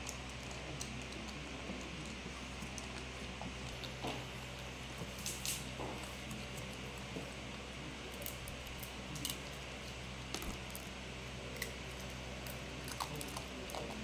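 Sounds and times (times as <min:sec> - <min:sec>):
dry noodles crunching: 0:00.0 - 0:14.0
steady low hum: 0:00.0 - 0:14.0.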